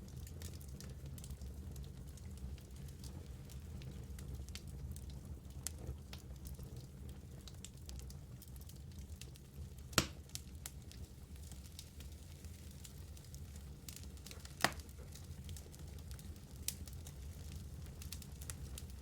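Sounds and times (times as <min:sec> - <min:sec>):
fire burning rumble: 0:00.0 - 0:19.0
fire crackling and popping: 0:00.0 - 0:19.0.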